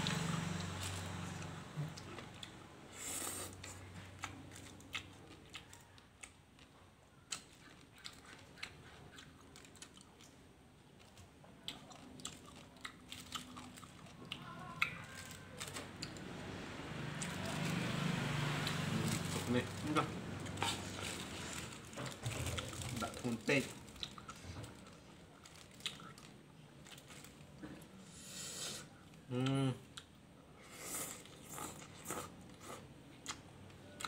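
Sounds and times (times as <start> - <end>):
person chewing crunchy food: 0.2 - 10.4, 11.0 - 16.3, 17.1 - 27.7, 30.7 - 34.0.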